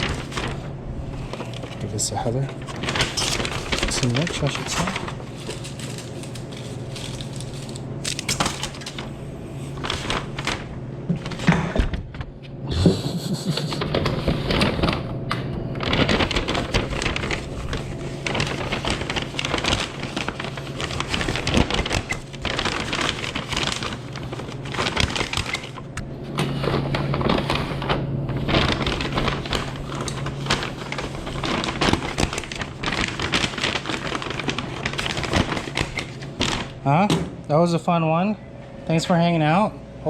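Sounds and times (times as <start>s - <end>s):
low hum of kitchen equipment: 0.0s - 40.0s.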